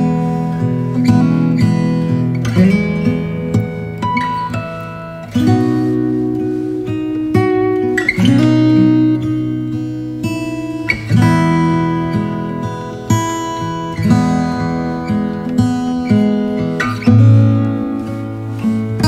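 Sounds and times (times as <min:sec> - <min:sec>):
acoustic guitar chords ringing: 0:00.0 - 0:19.0.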